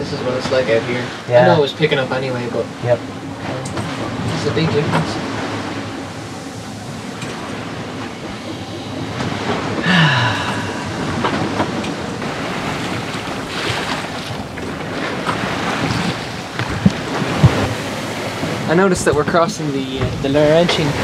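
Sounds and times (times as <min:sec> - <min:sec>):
water rushing along a hull: 0:00.0 - 0:21.0
wind noise: 0:00.0 - 0:21.0.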